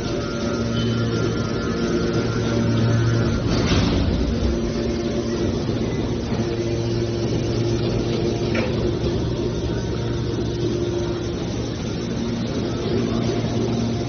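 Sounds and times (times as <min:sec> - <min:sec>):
baling machine hum: 0:00.0 - 0:14.0.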